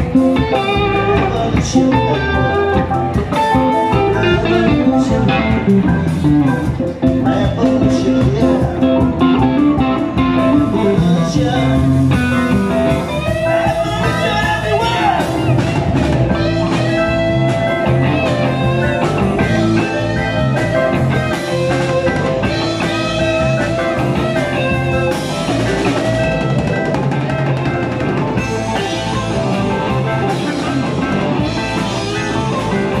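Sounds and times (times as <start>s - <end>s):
lead guitar bending notes: 0.0s - 33.0s
live blues-rock band: 0.0s - 33.0s.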